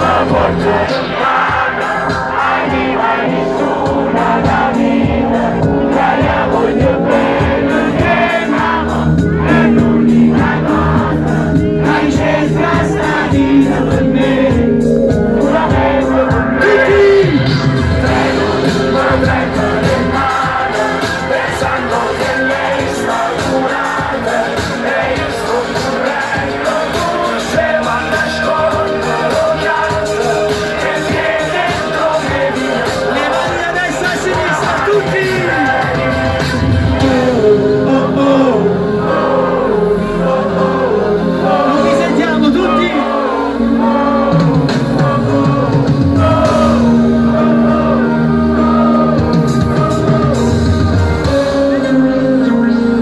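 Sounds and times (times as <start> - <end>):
crowd singing along: 0.0 - 53.0
loud concert music with beat: 0.0 - 53.0.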